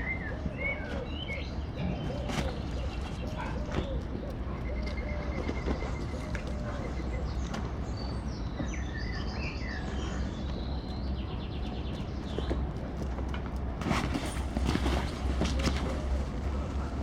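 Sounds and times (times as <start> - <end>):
small birds chirping and trilling: 0.0 - 17.0.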